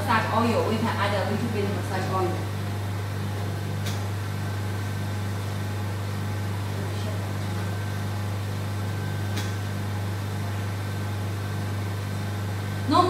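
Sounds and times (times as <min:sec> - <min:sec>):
machine humming with pulsing: 0:00.0 - 0:13.0.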